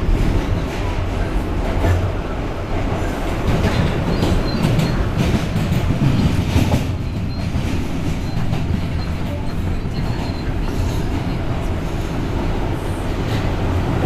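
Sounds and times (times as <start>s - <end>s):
subway car wheels rumbling: 0.0s - 14.0s.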